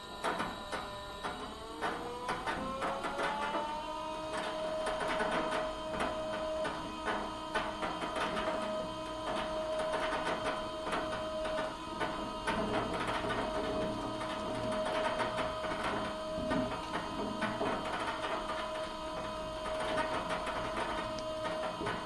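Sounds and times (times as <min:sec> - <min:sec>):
machine motor whine: 0:00.0 - 0:22.0.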